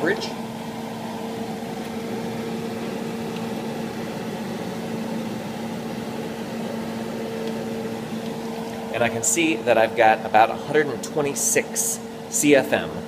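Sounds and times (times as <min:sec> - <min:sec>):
range hood fan rushing air: 0:00.0 - 0:13.0.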